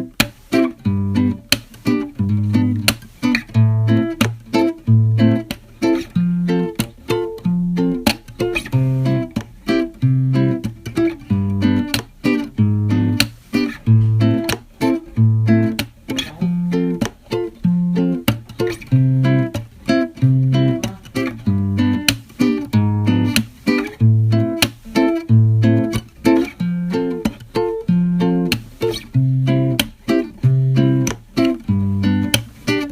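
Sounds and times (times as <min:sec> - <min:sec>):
plucked acoustic guitar: 0:00.0 - 0:32.9.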